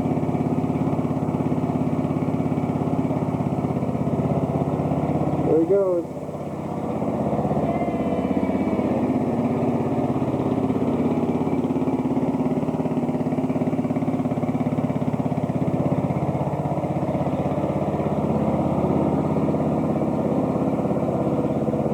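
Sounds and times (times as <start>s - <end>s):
lawn tractor engine running: 0.0s - 21.9s.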